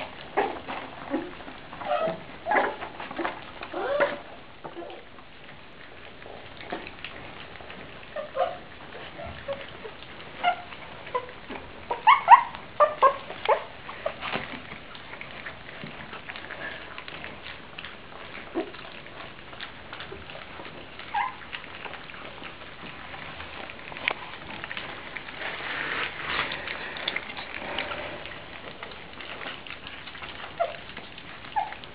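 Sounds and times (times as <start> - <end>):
puppies squeaking and whimpering: 0.0 - 5.1, 7.9 - 15.6, 17.8 - 31.9
light clicking and pattering: 0.0 - 31.9.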